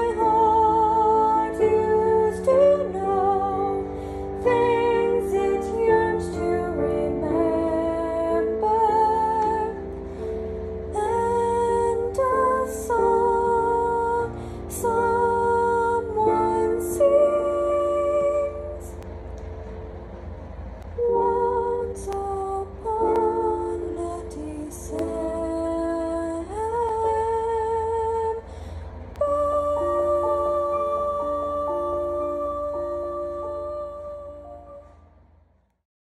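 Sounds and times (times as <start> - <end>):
girl singing with vibrato: 0.0 - 10.0, 10.9 - 19.0, 21.0 - 35.0.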